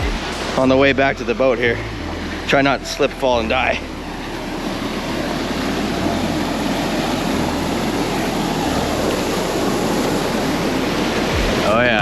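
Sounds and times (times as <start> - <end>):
creek rapids rushing: 0.0 - 12.0.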